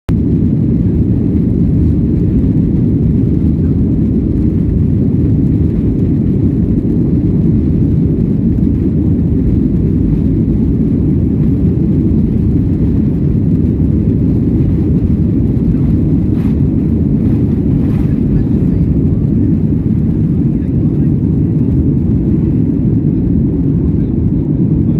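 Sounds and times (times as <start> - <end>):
jet engine cabin rumble: 0.1 - 24.9.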